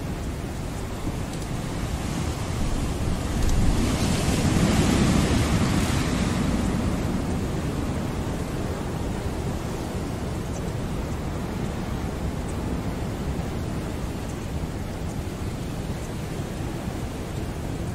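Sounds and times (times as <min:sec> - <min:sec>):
ocean surf washing: 0:00.0 - 0:17.9.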